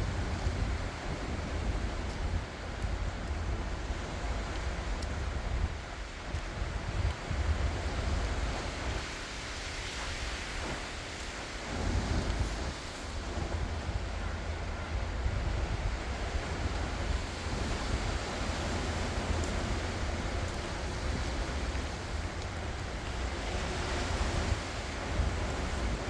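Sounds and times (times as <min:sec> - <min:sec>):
waves breaking: 0:00.0 - 0:26.0
wind on microphone: 0:00.0 - 0:26.0.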